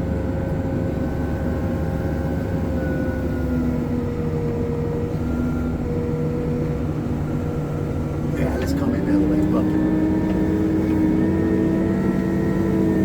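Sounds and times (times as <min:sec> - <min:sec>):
diesel engine rumbling under load: 0:00.0 - 0:13.0
engine whine: 0:00.0 - 0:13.0.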